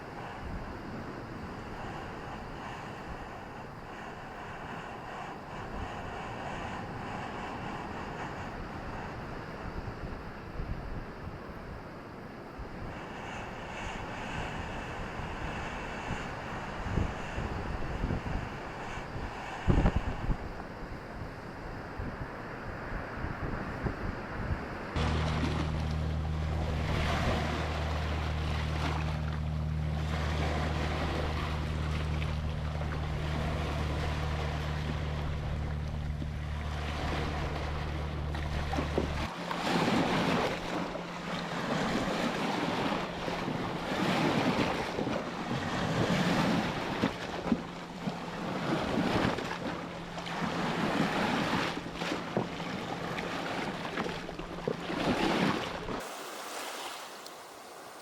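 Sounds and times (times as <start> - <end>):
ocean waves washing in: 0.0 - 58.0
steady low hum: 0.0 - 58.0.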